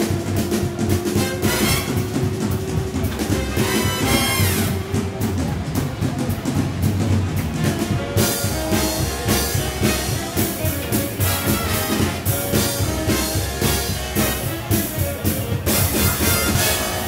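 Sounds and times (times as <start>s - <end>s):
instrumental music with drums and brass: 0.0s - 17.0s.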